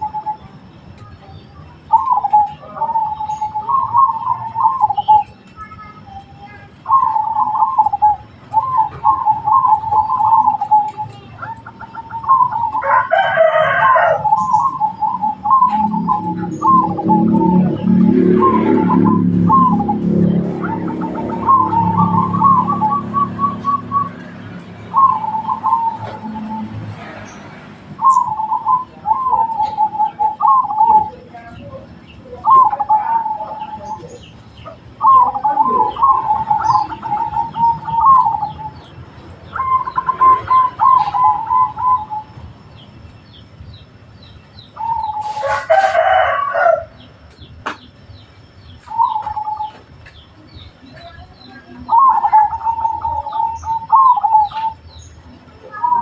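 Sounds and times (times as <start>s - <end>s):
dove trilled cooing: 0.0s - 27.4s, 28.0s - 42.9s, 44.7s - 47.1s, 48.7s - 50.2s, 50.9s - 56.0s
harsh bird call: 0.0s - 42.5s, 44.4s - 47.8s, 50.6s - 56.0s.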